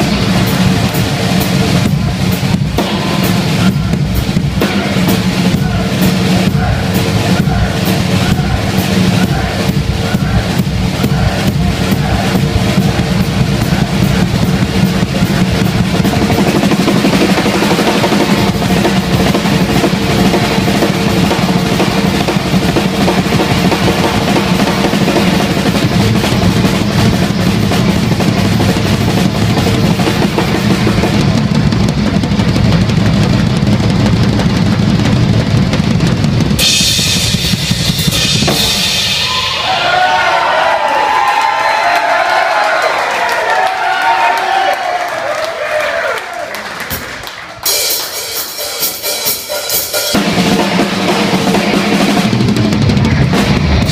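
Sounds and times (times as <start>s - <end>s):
rock drum solo: 0.0s - 42.9s, 47.6s - 53.9s.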